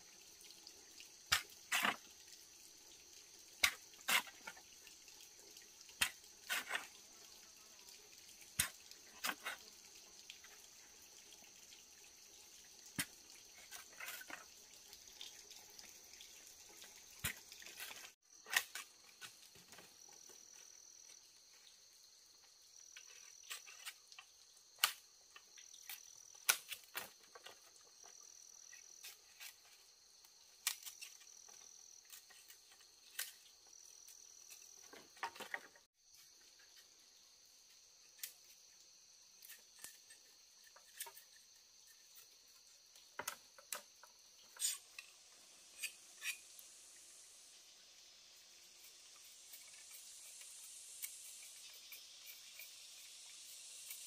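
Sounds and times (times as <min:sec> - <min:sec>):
high insect call: 0:00.0 - 0:54.0
insects trilling: 0:00.0 - 0:54.0.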